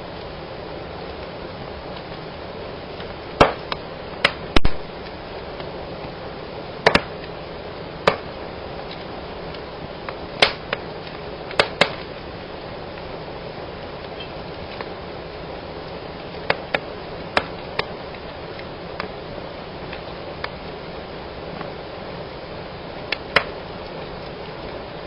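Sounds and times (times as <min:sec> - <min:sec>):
wood fire crackling and snapping: 0:00.0 - 0:25.0.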